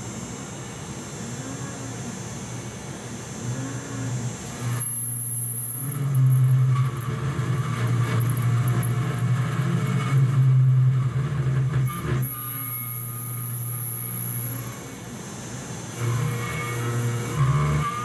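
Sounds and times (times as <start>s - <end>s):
high steady spindle whine: 0.0s - 18.0s.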